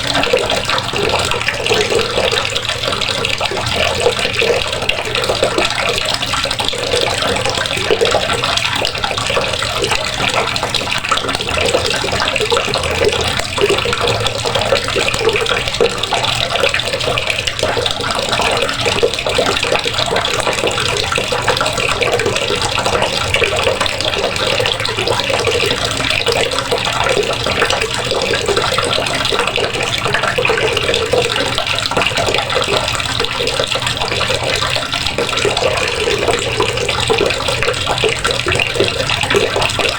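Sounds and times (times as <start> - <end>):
faucet water splashing into basin: 0.0 - 39.9.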